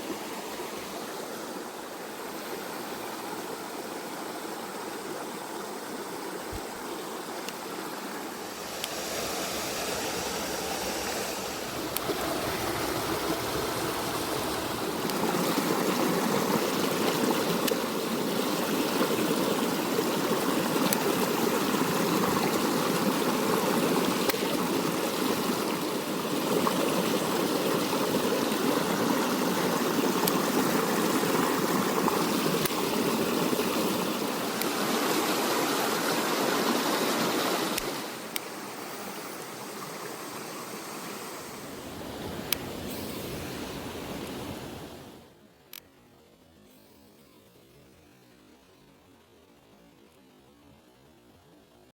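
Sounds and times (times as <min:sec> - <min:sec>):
mountain stream rushing over rocks: 0:00.0 - 0:45.3.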